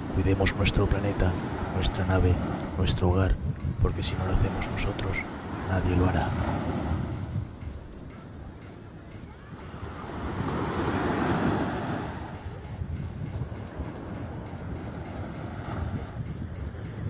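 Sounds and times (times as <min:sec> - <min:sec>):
high electronic beeps: 0:00.6 - 0:01.6, 0:02.2 - 0:17.0.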